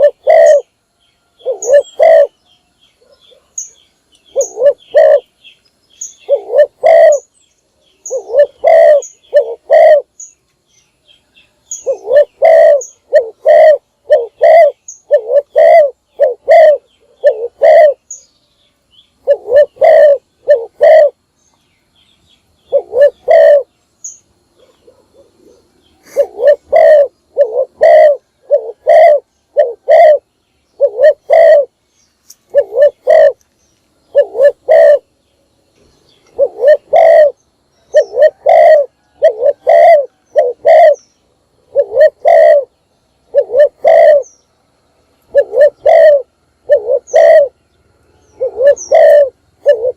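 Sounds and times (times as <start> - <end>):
dove cooing: 0.0 - 2.4, 3.0 - 7.3, 8.0 - 10.3, 11.7 - 18.2, 19.2 - 21.3, 22.7 - 23.7, 24.5 - 31.8, 32.5 - 33.4, 34.1 - 35.1, 36.2 - 41.0, 41.6 - 44.3, 45.2 - 49.9.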